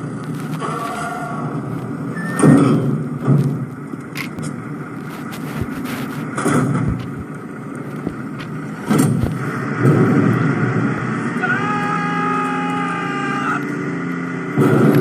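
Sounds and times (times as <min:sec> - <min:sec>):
garbage truck rumbling: 0:00.0 - 0:11.4, 0:13.8 - 0:15.0.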